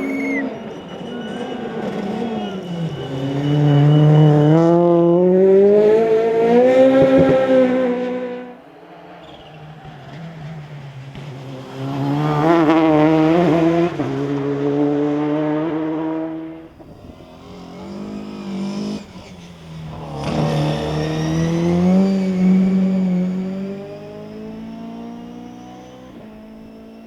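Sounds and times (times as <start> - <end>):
rally car engines at high revs: 0.0 - 27.0.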